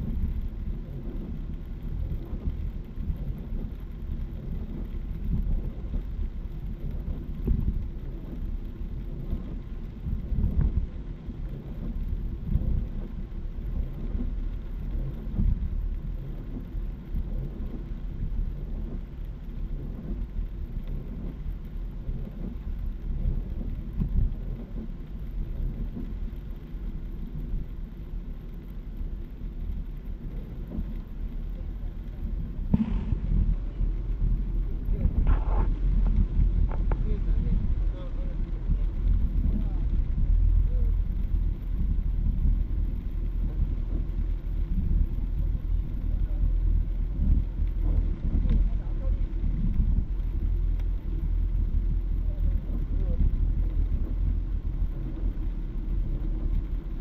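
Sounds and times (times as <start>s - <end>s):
heavy rain drumming on car roof: 0.0s - 57.0s
tyres rumbling on wet road: 0.0s - 57.0s.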